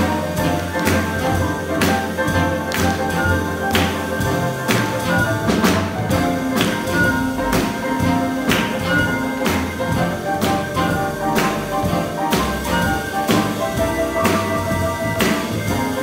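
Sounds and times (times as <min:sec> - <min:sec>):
jazz band playing blues: 0:00.0 - 0:16.0
piano: 0:00.0 - 0:16.0
walking upright bass: 0:00.0 - 0:16.0.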